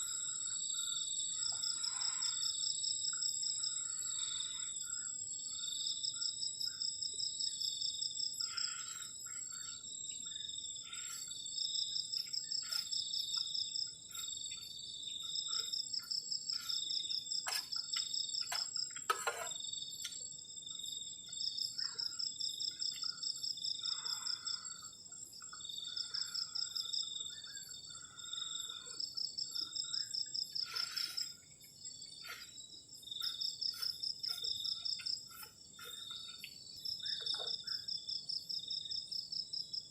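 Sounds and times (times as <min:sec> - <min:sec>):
high continuous insect trill: 0:00.0 - 0:39.9
pulsed insect trill: 0:00.0 - 0:39.9.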